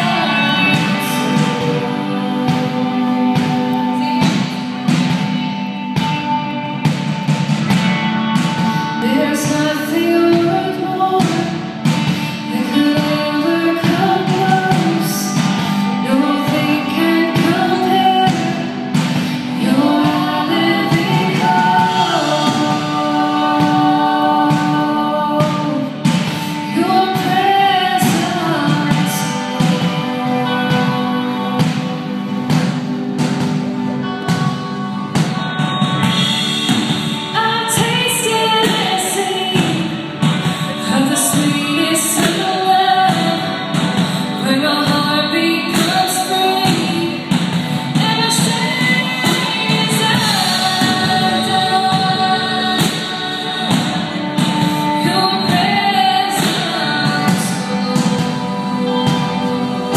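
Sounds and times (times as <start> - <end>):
woman singing: 0.0 - 6.9, 7.8 - 32.9, 34.0 - 59.9
instrumental accompaniment: 0.0 - 59.9.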